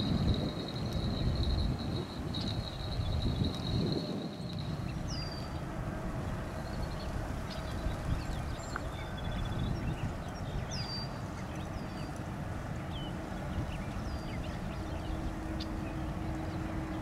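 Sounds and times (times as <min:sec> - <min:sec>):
distant jet rumble: 0:00.0 - 0:17.0
wind: 0:00.0 - 0:17.0
birds chirping and trilling: 0:00.2 - 0:05.7, 0:06.4 - 0:12.2, 0:12.8 - 0:17.0.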